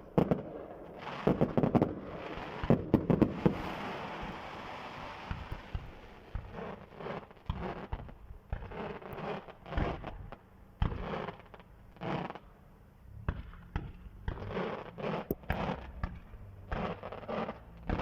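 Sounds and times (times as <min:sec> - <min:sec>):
fireworks bangs: 0:00.0 - 0:12.4, 0:13.2 - 0:18.0
crackling rumble: 0:00.0 - 0:18.0.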